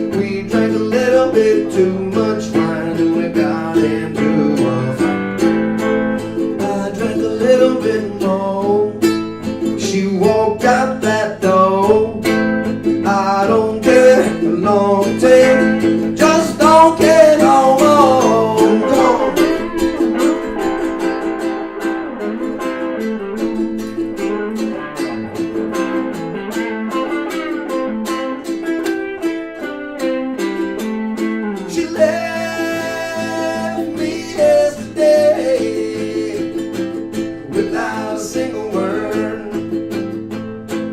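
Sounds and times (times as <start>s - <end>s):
person singing: 0.0s - 5.5s, 6.4s - 29.3s, 30.4s - 40.0s
acoustic guitar plucked and strummed: 0.0s - 40.9s.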